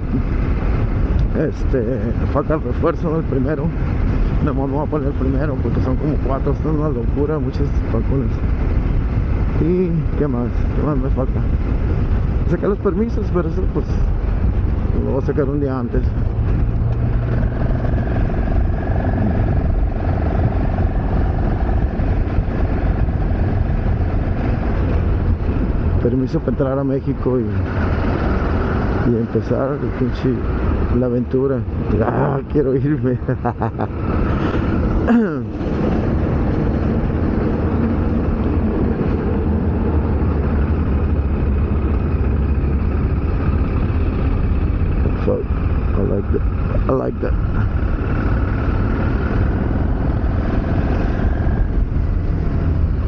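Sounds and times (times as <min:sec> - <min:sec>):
motorcycle engine droning: 0:00.0 - 0:53.0
road noise: 0:00.0 - 0:53.0
wind rush: 0:00.0 - 0:53.0.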